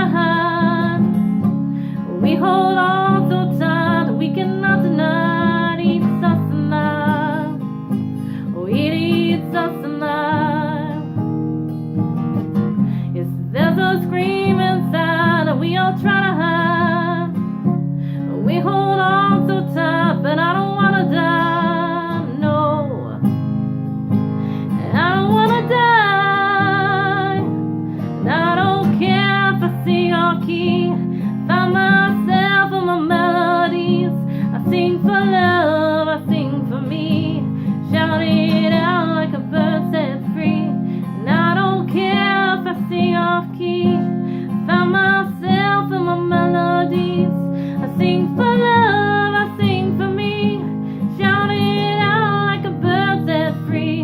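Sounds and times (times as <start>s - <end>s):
woman singing with vibrato: 0.0s - 1.3s, 2.0s - 7.7s, 8.5s - 11.1s, 13.2s - 17.5s, 18.3s - 23.3s, 24.7s - 27.6s, 28.2s - 54.0s
acoustic guitar strumming: 0.0s - 54.0s.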